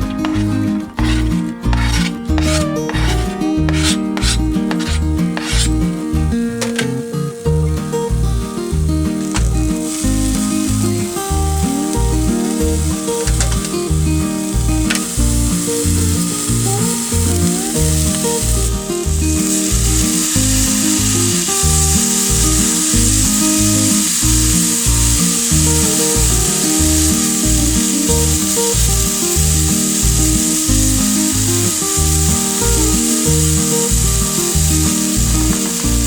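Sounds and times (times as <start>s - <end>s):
vegetables sizzling in a pan: 0.0s - 36.0s.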